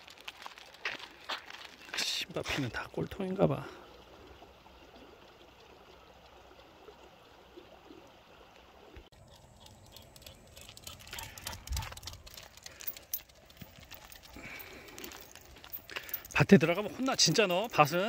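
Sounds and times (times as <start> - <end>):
faint outdoor hiss: 1.3 - 18.0.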